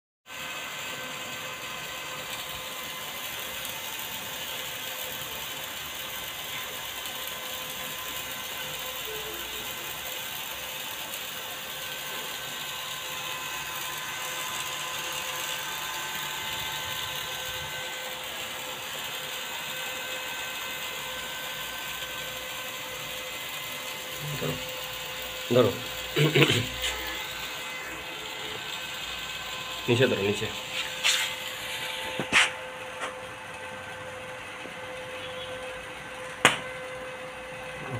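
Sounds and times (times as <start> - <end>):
welding machine fan whirring: 0.2 - 37.9.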